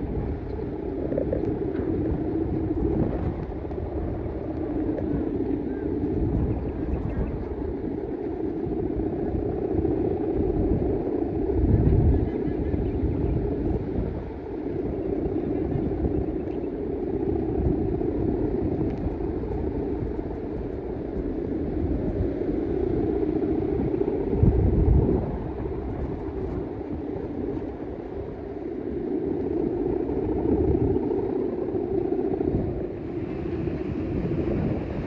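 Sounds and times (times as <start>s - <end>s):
kite hummer droning: 0.0s - 35.0s
wind buffeting microphone: 0.0s - 35.0s.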